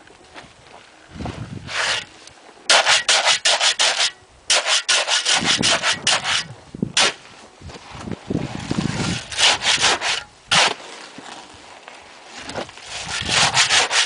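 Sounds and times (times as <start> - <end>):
gritty scraping of concrete mixing: 1.2 - 14.0.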